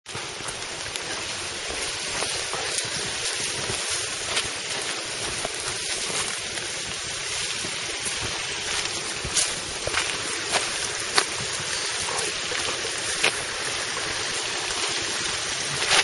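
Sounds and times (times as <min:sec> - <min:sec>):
faint footsteps on trail: 0:00.1 - 0:16.0
mountain stream rushing: 0:00.1 - 0:16.0.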